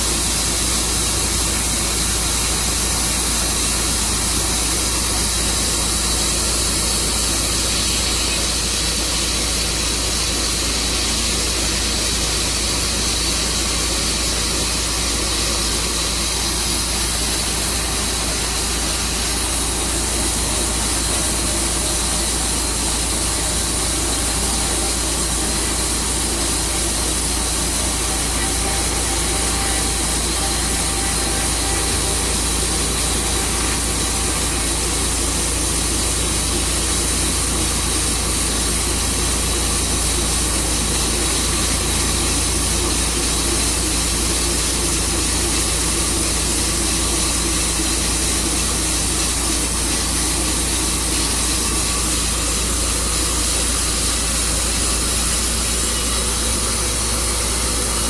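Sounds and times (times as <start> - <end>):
dense hiss: 0.0 - 58.0
sawmill engine drone: 0.0 - 58.0.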